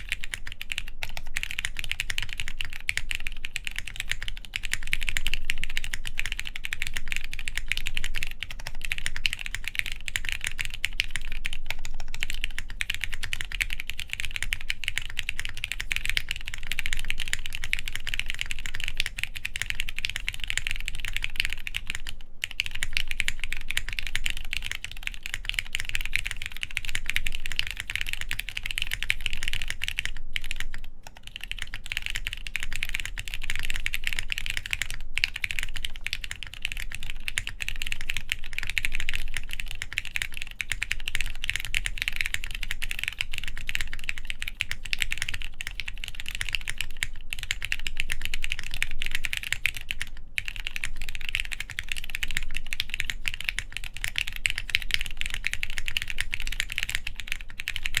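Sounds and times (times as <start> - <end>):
fast mechanical keyboard typing: 0.0 - 58.0.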